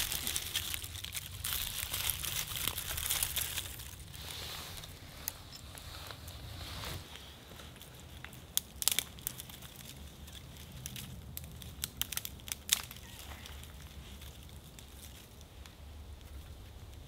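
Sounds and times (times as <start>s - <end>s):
crinkling and crackling: 0.0s - 17.0s.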